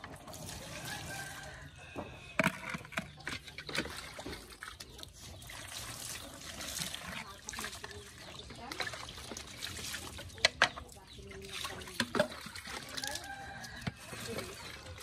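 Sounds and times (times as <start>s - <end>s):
water splashing on toys and concrete: 0.0s - 15.0s.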